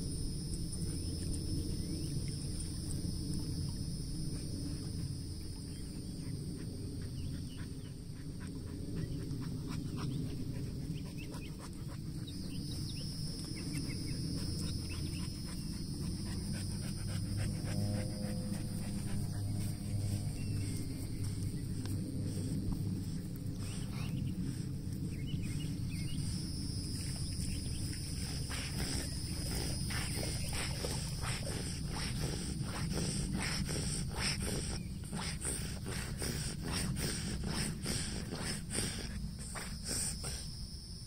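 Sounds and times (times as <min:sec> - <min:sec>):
steady low rumble: 0:00.0 - 0:41.0
dog panting: 0:04.2 - 0:40.5.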